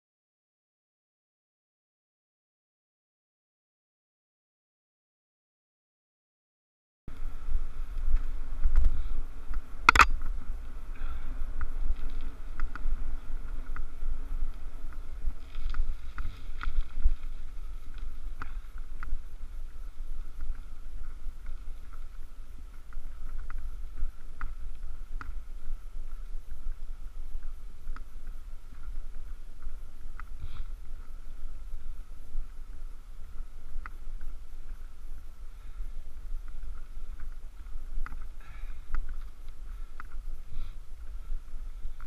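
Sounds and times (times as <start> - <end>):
road rumble: 7.1 - 42.0
wind on microphone: 7.1 - 42.0.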